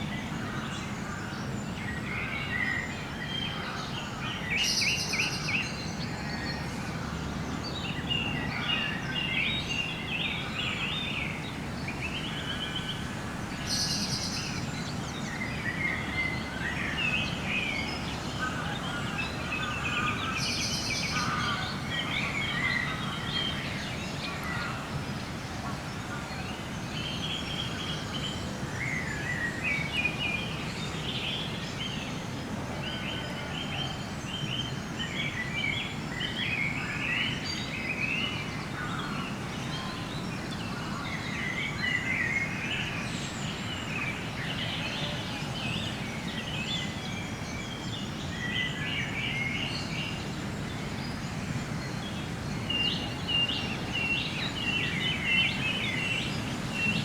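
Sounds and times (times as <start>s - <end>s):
birds singing and calling: 7.6s - 57.0s.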